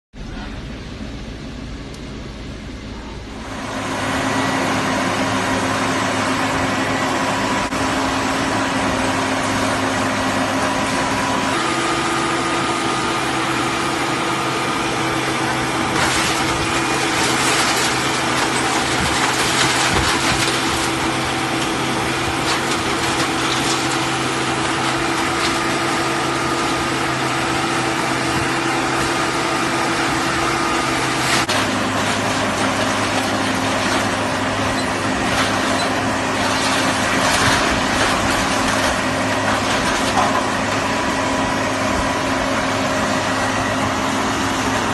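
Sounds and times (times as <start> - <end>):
hydraulic baler machine hum: 0.2 - 44.9.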